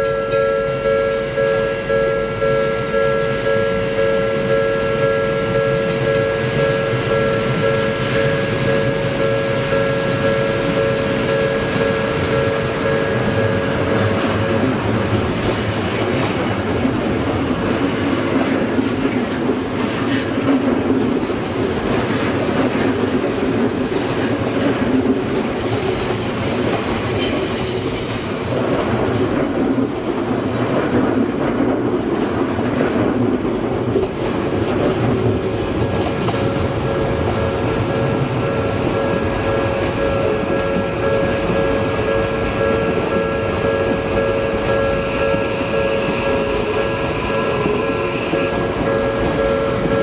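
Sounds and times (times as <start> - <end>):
crossing signal warning tones: 0.0 - 28.6, 35.2 - 50.0
electric train wheels clattering: 0.0 - 50.0.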